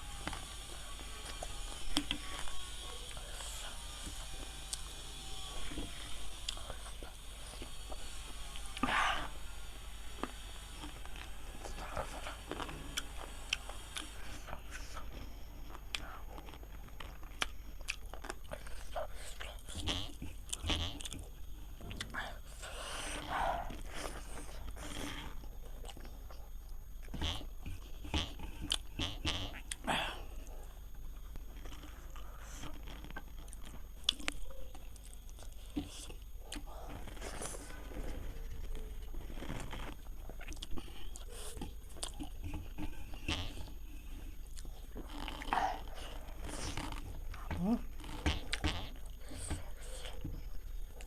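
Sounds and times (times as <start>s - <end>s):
person chewing food: 0.0s - 51.0s.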